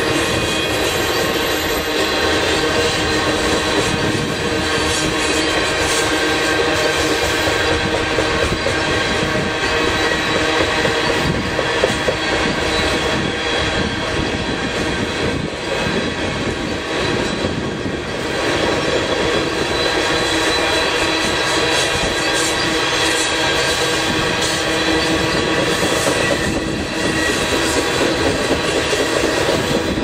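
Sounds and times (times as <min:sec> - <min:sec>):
freight train wheels rolling: 0:00.0 - 0:30.0.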